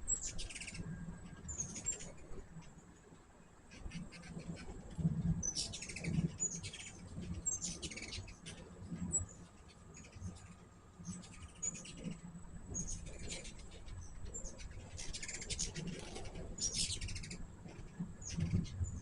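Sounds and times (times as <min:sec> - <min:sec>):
faint low hum: 0:00.0 - 0:19.0
hummingbirds chipping and twittering: 0:00.0 - 0:19.0.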